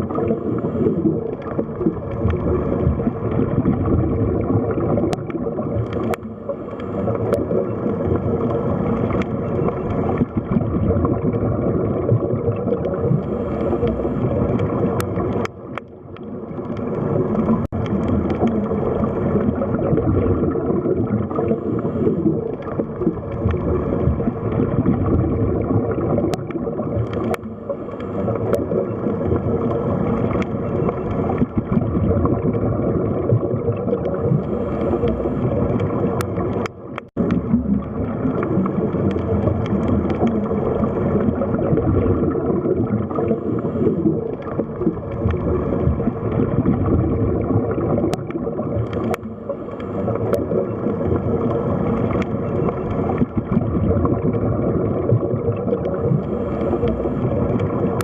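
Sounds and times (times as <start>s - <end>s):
churning water: 0.0s - 58.0s.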